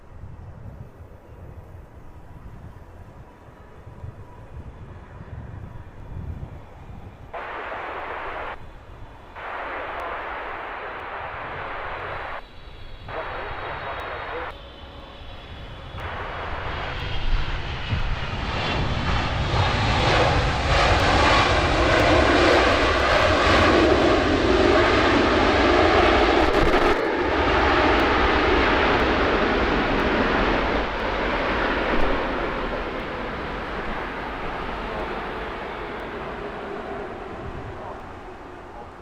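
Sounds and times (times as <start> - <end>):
jet airliner engine roar: 0.0 - 39.0.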